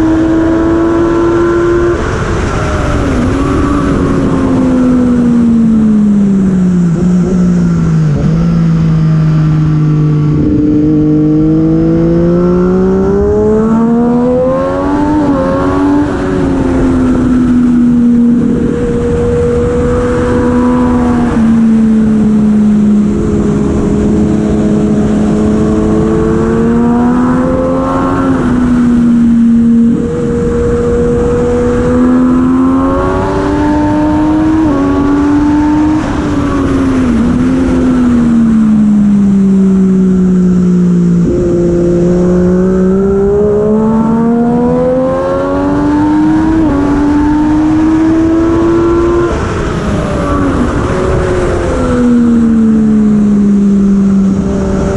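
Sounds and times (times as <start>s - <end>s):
racing motorcycle engine revving: 0.0s - 54.9s.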